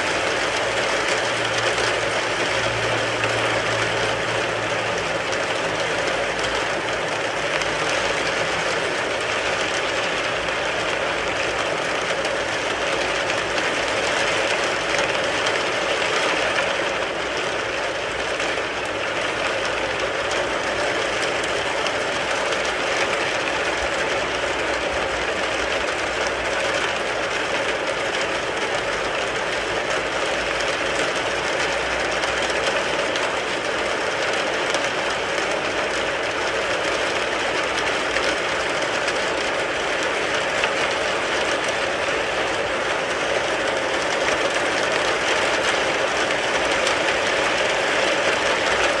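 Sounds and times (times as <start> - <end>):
rain on a car: 0.0 - 49.0.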